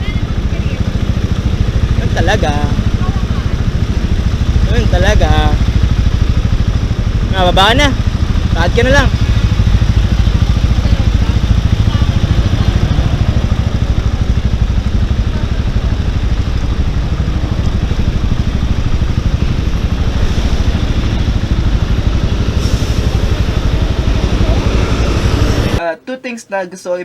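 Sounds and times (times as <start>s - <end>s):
motorcycle engine running: 0.0s - 25.8s
wind and road noise: 0.0s - 25.8s.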